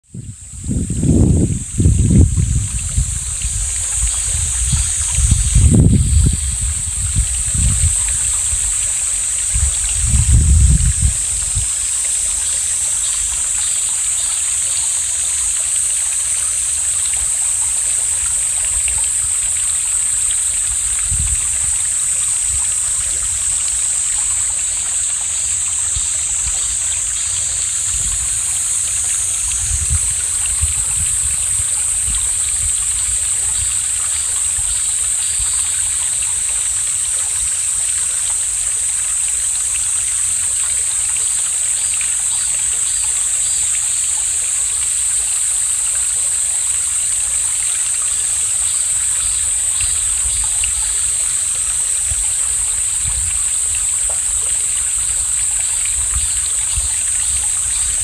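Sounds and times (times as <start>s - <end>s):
stream water flowing: 0.1s - 58.0s.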